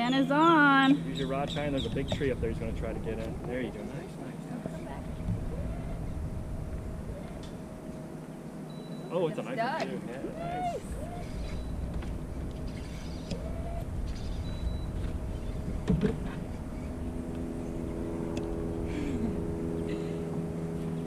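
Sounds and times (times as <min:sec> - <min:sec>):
small boat motor humming: 0:00.0 - 0:21.0
second fuller motor hum: 0:00.2 - 0:21.0.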